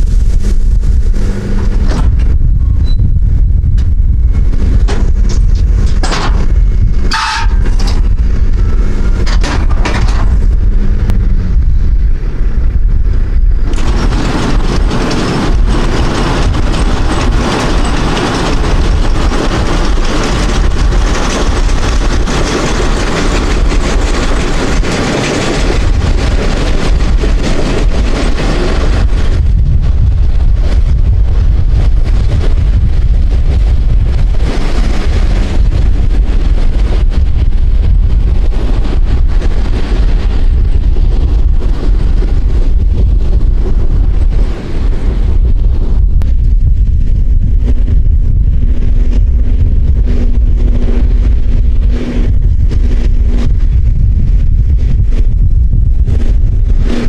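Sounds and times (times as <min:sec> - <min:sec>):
heavy low rumble: 0:00.0 - 0:57.0
tractor engine and baler: 0:00.0 - 0:57.0.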